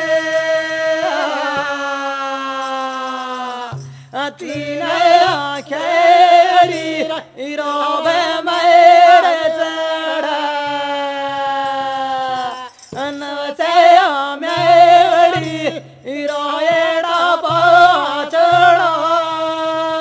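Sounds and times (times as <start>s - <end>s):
men singing a devotional chant: 0.0s - 20.0s.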